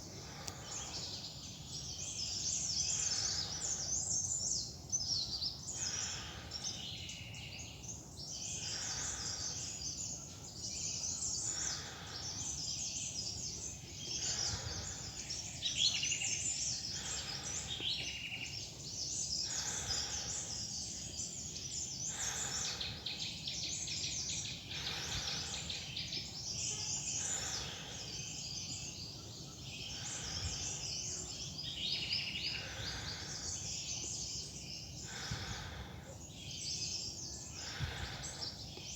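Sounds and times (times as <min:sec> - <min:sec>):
birds chirping and singing: 0:00.1 - 0:38.9.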